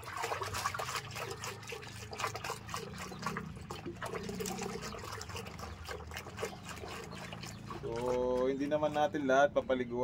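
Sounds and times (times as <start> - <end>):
hand splashing water in bucket: 0.0 - 9.0.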